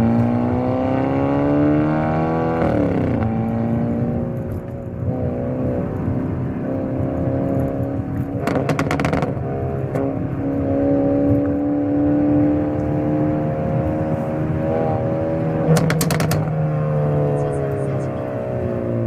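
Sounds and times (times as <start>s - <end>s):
car engine and exhaust running: 0.0s - 19.0s.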